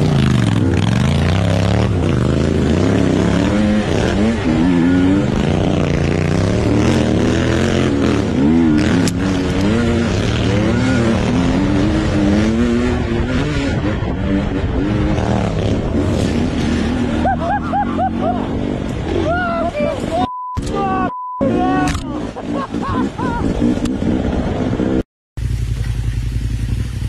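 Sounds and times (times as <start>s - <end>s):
dirt bike engine revving: 0.0s - 19.2s, 21.4s - 27.0s
second dirt bike revving: 0.0s - 20.0s, 21.4s - 26.8s.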